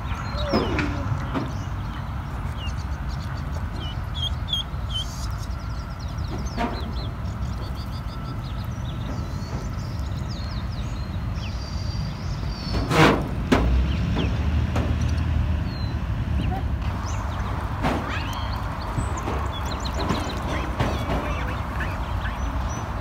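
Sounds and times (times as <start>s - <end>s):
small birds chirping: 0.0s - 13.0s, 13.7s - 23.0s
steady low rumble: 0.0s - 23.0s.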